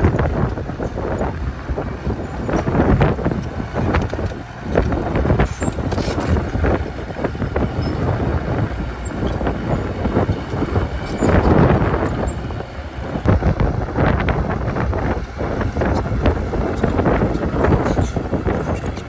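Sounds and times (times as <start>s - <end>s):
bulldozer diesel engine under load: 0.0s - 19.0s
wind buffeting microphone: 0.0s - 19.0s.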